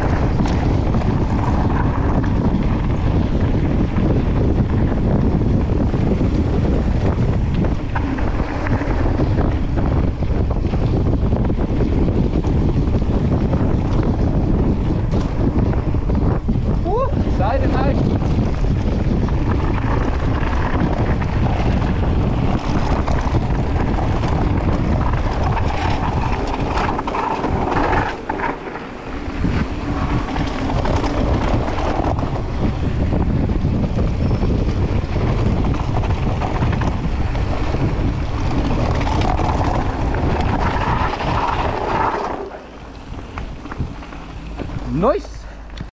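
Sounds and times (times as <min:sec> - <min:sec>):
bike tyre roar on dirt: 0:00.0 - 0:45.9
wind buffeting microphone: 0:00.0 - 0:45.9.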